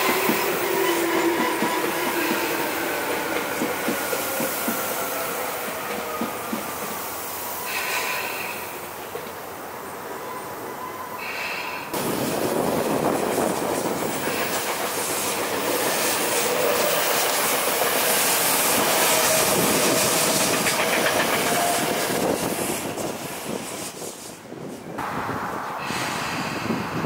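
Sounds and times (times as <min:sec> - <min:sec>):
faint train whine: 0:00.0 - 0:27.0
wheels rushing on rails: 0:00.0 - 0:27.0.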